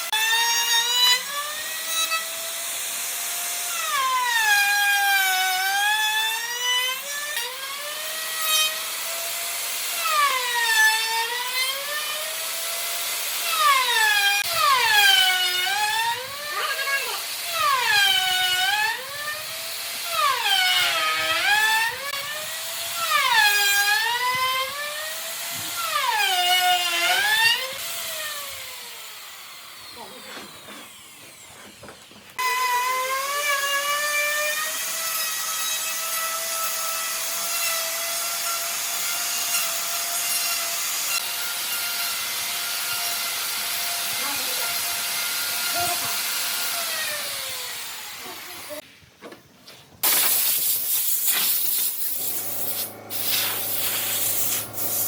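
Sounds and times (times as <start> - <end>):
electric power tool cutting wood: 0.0 - 48.8, 50.0 - 55.0.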